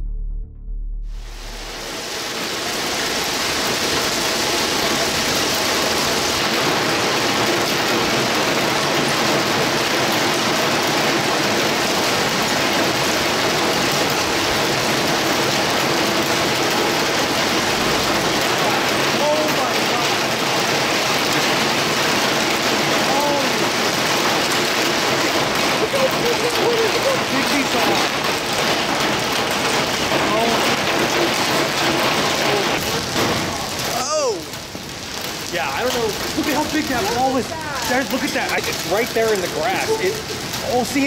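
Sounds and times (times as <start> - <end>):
hail and heavy rain pelting: 1.2 - 41.0.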